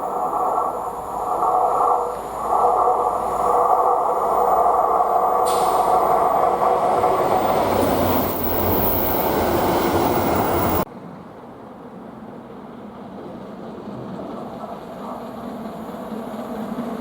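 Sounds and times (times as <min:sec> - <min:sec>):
train passing rumble: 0:00.0 - 0:17.0.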